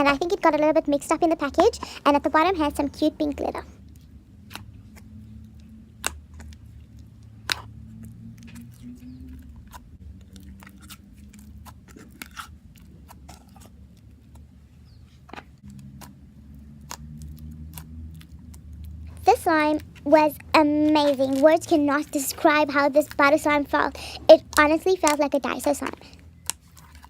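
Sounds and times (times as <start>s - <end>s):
slime squishing with pops: 3.8s - 14.6s, 15.6s - 27.0s.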